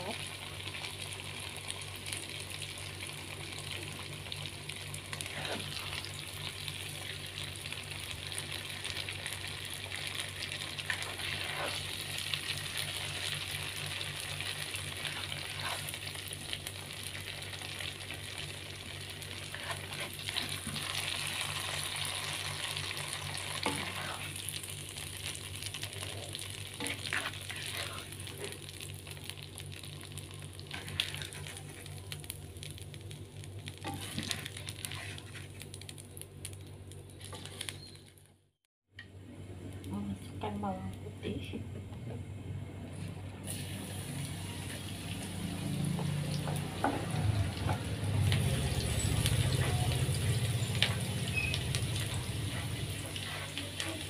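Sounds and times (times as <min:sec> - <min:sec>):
tofu sizzling in hot oil: 0:00.0 - 0:37.9, 0:43.5 - 0:54.0.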